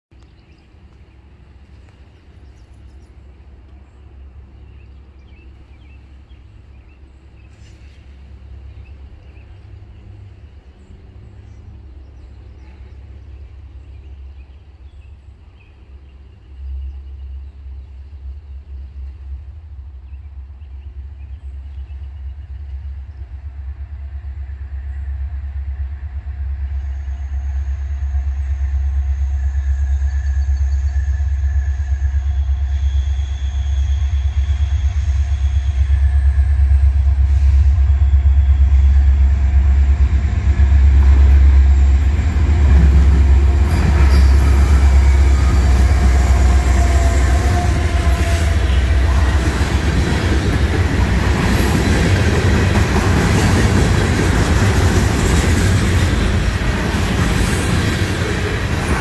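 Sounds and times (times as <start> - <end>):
distant freight train rumble: 0.2 - 59.0.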